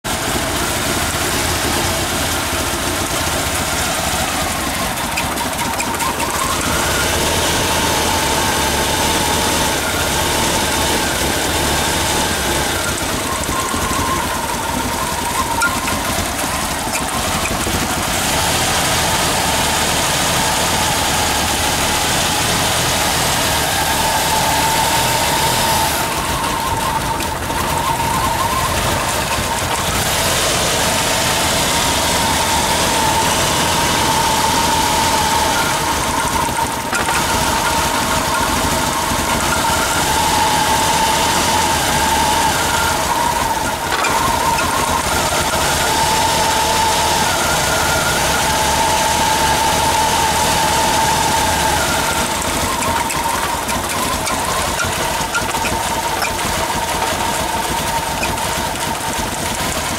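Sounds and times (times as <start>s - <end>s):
car engine idling roughly: 0.0s - 59.9s
whine drifting in pitch: 0.1s - 59.9s.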